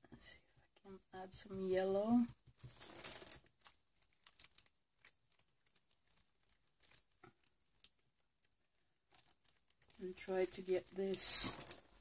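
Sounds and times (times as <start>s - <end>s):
soft taps and rustles on paper: 0.0s - 10.0s.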